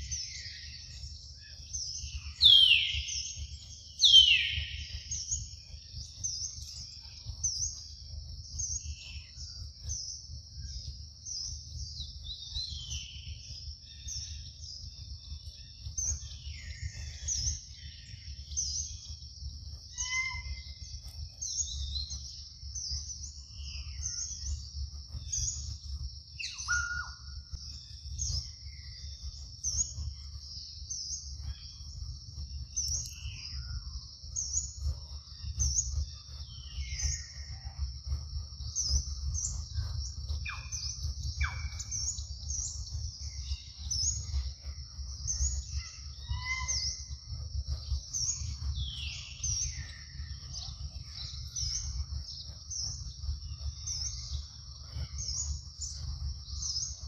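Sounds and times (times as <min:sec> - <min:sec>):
birds chirping and calling: 0:00.0 - 0:37.9, 0:38.5 - 0:57.0
high-pitched buzz with chirp: 0:00.0 - 0:57.0.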